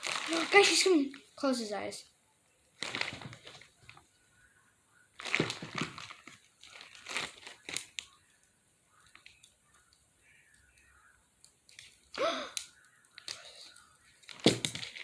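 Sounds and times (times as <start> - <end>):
fidget toys crinkling and rustling: 0.0 - 1.9, 2.7 - 4.2, 5.1 - 15.0.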